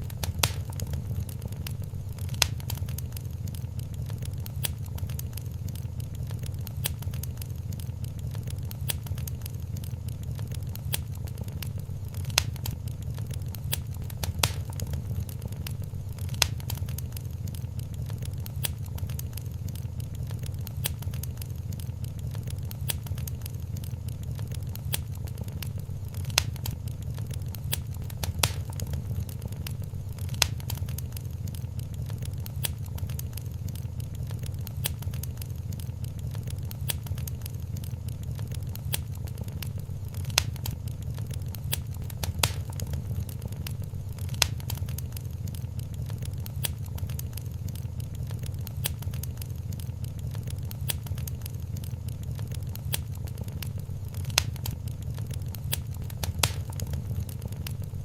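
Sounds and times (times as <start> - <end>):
fire flames rumbling: 0.0 - 58.0
wood fire crackling and popping: 0.0 - 58.0.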